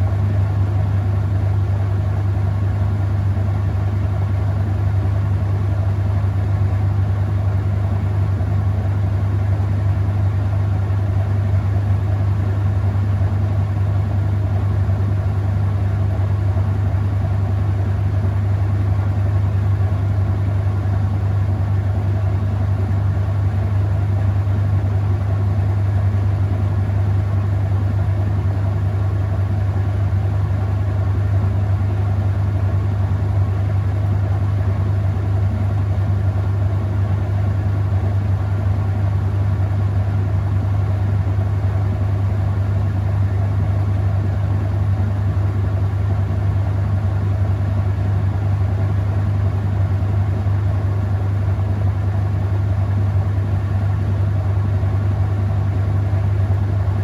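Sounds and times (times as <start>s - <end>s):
washing machine spinning: 1.8s - 57.0s.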